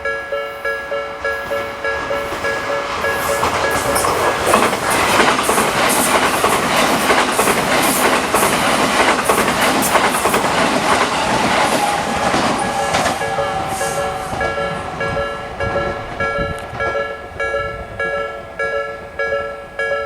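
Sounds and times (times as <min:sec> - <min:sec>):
train wheels clacking on rail joints: 0:00.6 - 0:19.9.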